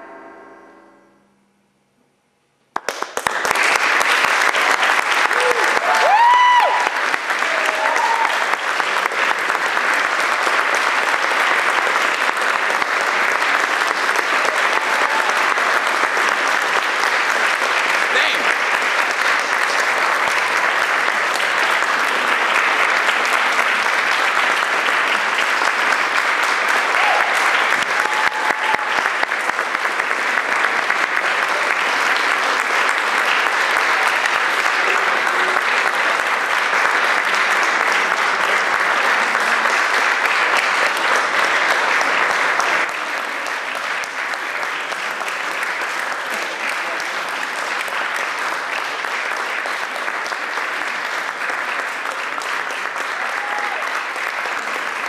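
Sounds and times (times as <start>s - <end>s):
audience applauding: 2.7s - 55.0s.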